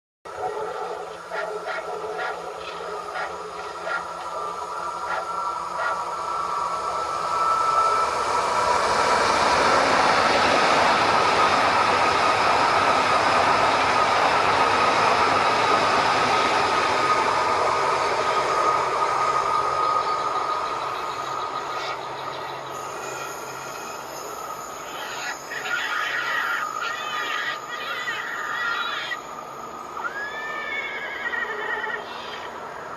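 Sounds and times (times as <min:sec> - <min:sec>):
electric train passing: 0:00.3 - 0:32.9.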